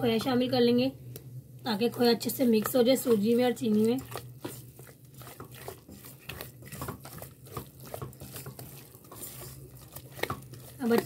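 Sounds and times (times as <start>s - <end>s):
spatula scraping thick mixture in pot: 1.7s - 11.0s.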